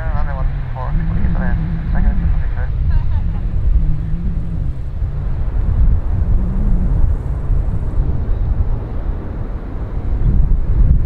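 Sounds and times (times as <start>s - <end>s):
distant jet engines rumbling: 0.0s - 11.0s.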